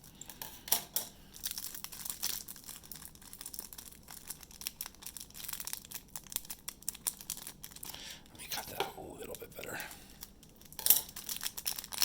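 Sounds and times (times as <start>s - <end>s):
plastic wrapper crinkling: 1.3s - 12.0s.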